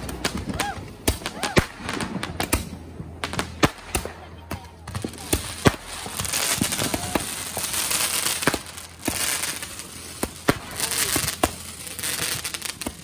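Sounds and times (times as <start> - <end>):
firework bangs and pops: 0.0 - 13.0
fireworks crackling hiss: 0.0 - 13.0.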